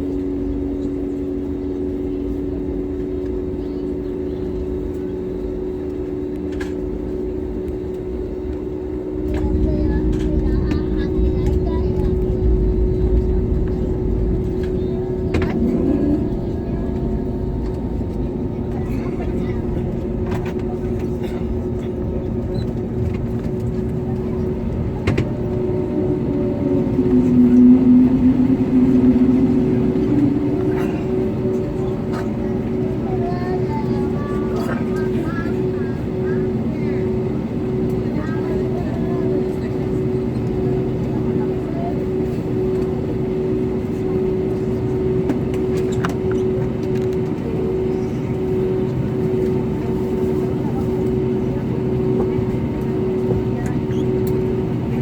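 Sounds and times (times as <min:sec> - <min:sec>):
aircraft engines humming in cabin: 0:00.0 - 0:55.0.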